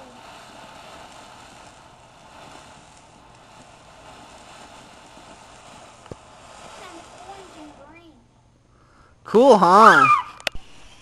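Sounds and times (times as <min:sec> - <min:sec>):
spark fountain firework hissing: 0:00.0 - 0:08.3, 0:08.9 - 0:11.0.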